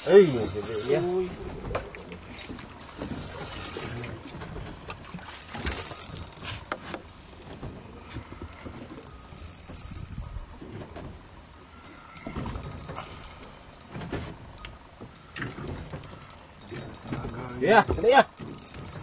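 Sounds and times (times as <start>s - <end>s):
fishing gear clicking and knocking: 0.1s - 19.0s.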